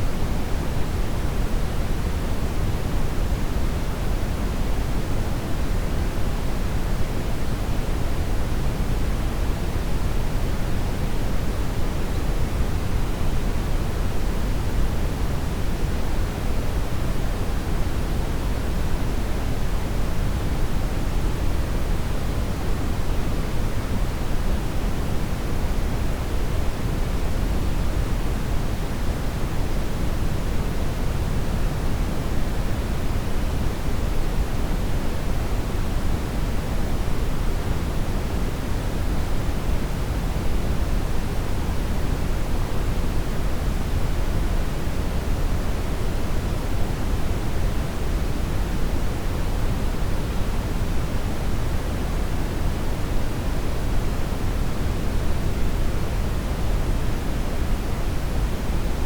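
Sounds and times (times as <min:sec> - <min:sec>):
brown noise hiss: 0:00.0 - 0:59.0.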